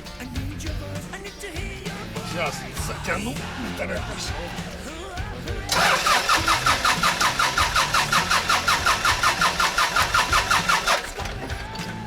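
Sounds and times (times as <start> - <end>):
starter cranking diesel engine: 2.1 - 11.9.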